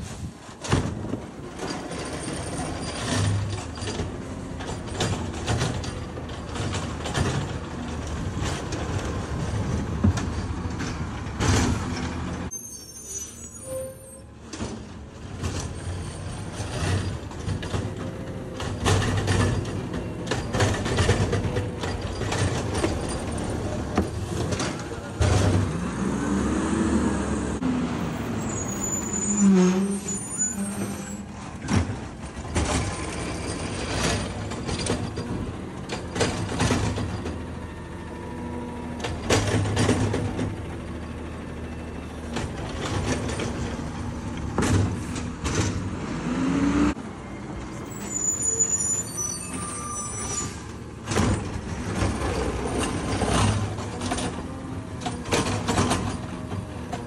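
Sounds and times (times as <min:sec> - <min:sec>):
garbage truck diesel engine: 0:00.0 - 0:57.0.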